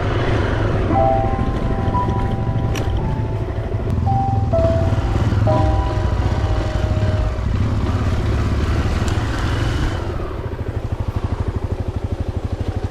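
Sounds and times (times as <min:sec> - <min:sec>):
motorcycle engine idling: 0:01.0 - 0:12.9.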